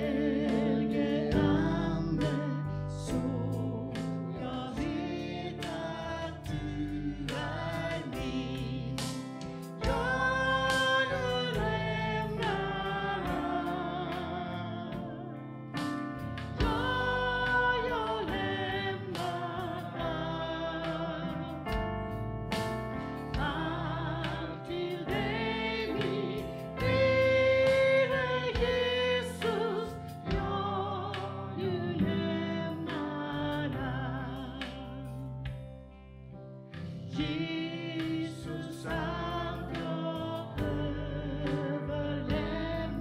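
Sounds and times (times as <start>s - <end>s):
person singing worship song: 0.0s - 15.8s, 16.4s - 21.8s, 23.3s - 35.5s, 36.8s - 43.0s
instrumental accompaniment: 0.0s - 43.0s.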